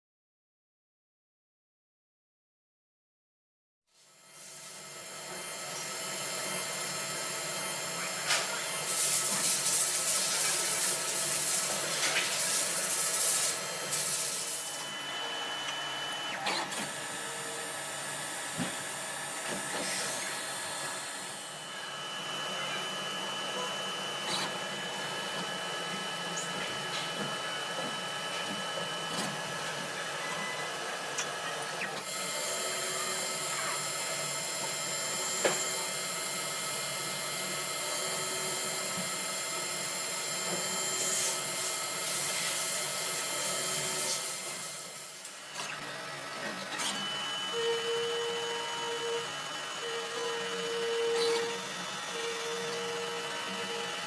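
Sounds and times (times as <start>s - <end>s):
lathe machine hum: 4.6s - 54.0s
machine whining tones: 4.6s - 54.0s.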